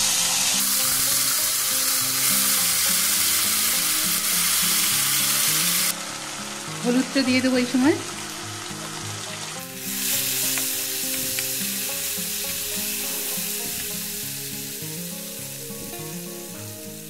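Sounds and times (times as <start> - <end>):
background music: 0.0 - 17.0
paste sizzling in hot oil: 0.0 - 17.0.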